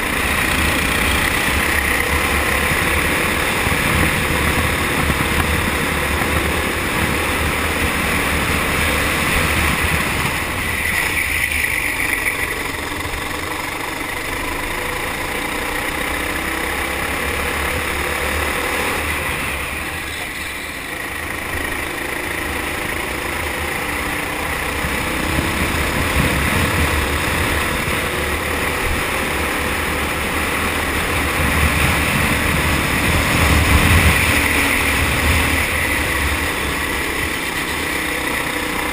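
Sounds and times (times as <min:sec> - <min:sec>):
kart engine running hard: 0:00.0 - 0:38.9.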